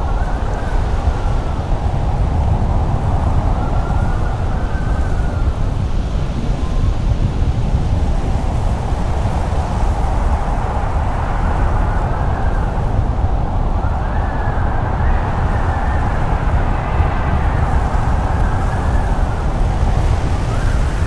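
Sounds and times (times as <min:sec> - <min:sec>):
blizzard wind howling: 0:00.0 - 0:21.0.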